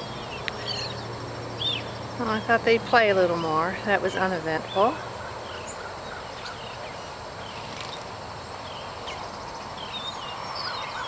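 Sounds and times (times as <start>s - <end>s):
bird chirps: 0.0s - 2.6s, 3.2s - 11.0s
outdoor background noise: 0.0s - 11.0s.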